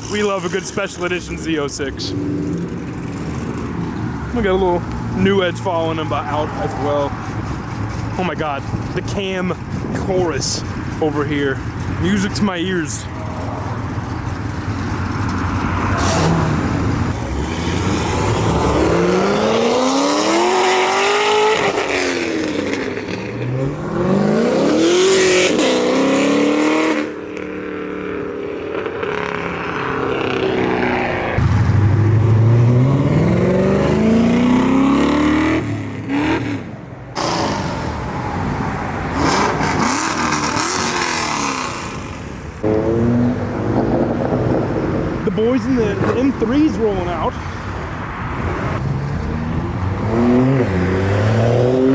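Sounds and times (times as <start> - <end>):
cars revving and accelerating: 0.0 - 51.9.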